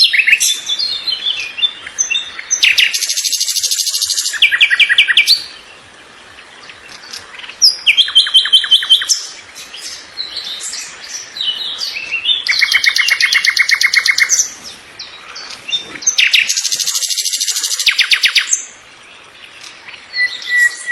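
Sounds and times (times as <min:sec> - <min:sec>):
songbird trilling and chirping: 0:00.0 - 0:20.9.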